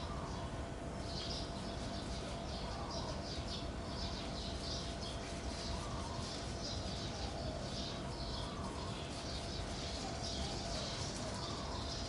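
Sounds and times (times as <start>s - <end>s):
birds chirping: 0.0s - 12.0s
low background noise: 0.0s - 12.0s.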